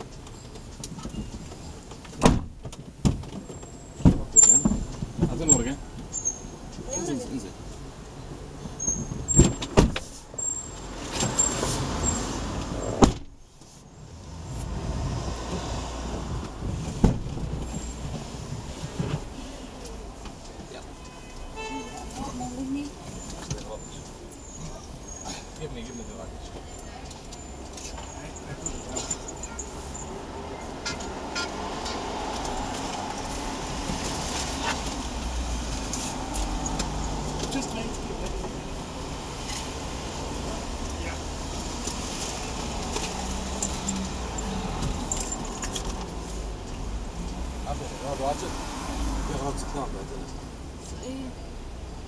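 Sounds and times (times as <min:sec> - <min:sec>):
street ambience: 0:00.0 - 0:52.0
road traffic rumbling past: 0:03.7 - 0:52.0.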